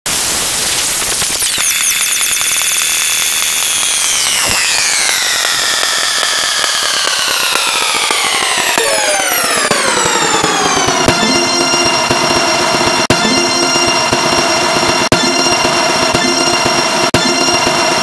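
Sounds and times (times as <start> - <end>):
fast crackling buzz: 0.1 - 18.0
shrill synthetic tones sliding down: 1.4 - 18.0.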